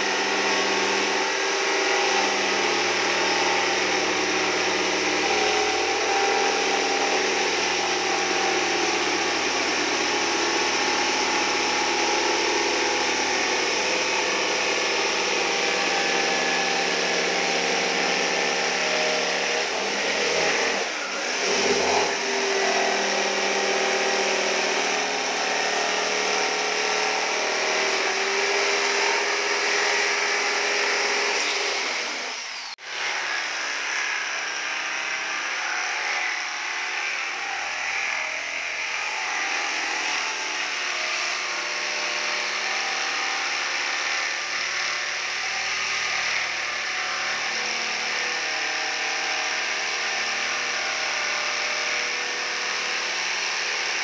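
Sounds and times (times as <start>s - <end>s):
jigsaw cutting plywood: 0.0s - 54.0s.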